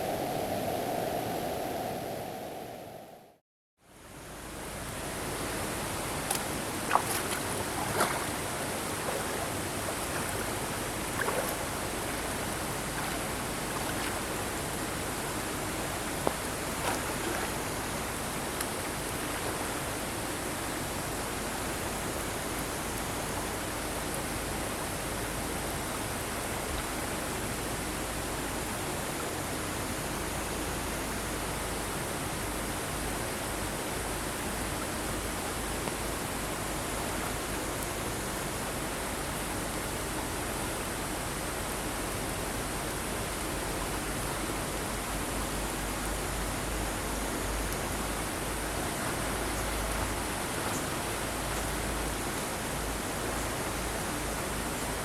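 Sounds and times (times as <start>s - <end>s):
stream rushing over rocks: 4.5s - 55.0s.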